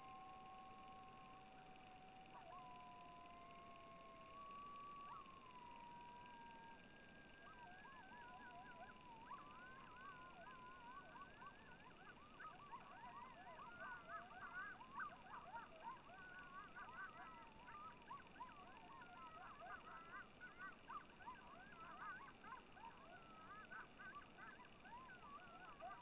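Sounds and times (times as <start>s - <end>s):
coyotes howling and yipping: 0.0s - 26.0s.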